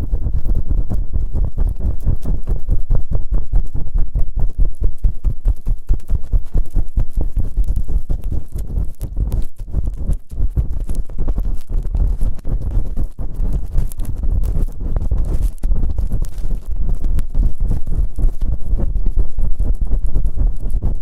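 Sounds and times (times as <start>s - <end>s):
rubbing on microphone: 0.0s - 21.0s.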